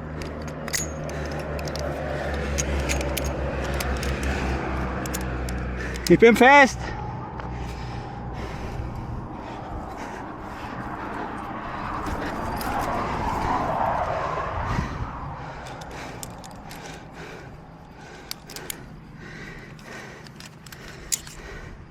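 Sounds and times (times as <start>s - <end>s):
climbing gear clinking: 0.0s - 9.2s, 9.9s - 13.5s, 15.5s - 21.9s.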